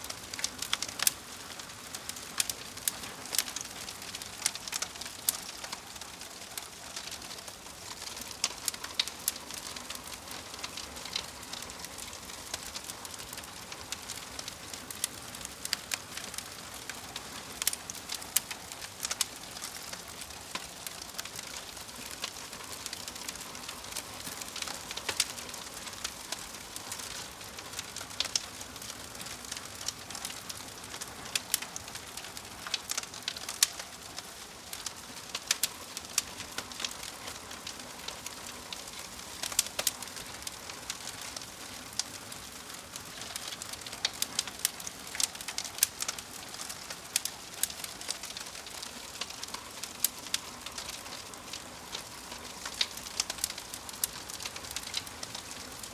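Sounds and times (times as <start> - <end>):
logs crackling and popping: 0.0 - 55.9
wood fire hissing: 0.0 - 55.9.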